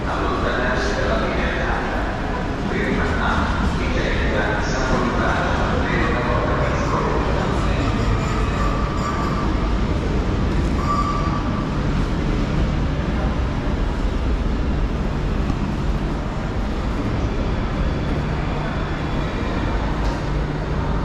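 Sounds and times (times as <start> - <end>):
murmur of people: 0.0 - 21.0.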